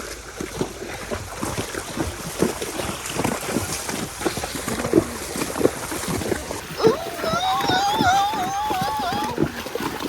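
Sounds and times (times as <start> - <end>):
horses splashing through water: 0.0 - 10.0.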